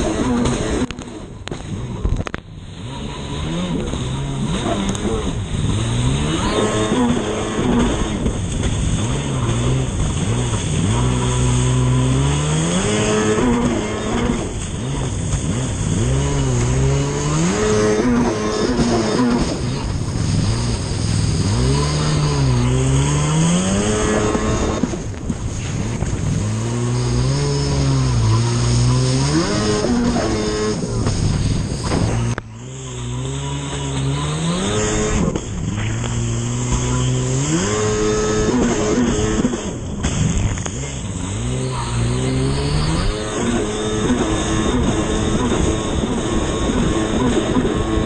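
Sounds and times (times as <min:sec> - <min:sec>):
jet ski engine revving: 0:00.0 - 0:48.0
water spray rushing: 0:02.6 - 0:48.0.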